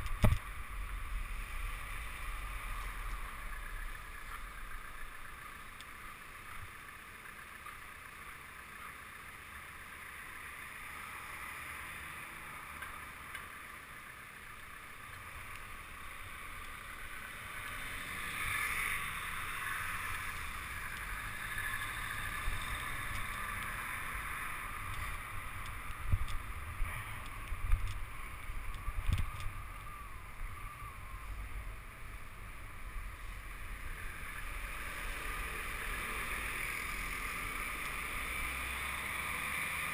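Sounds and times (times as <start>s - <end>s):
city traffic: 0.0s - 39.9s.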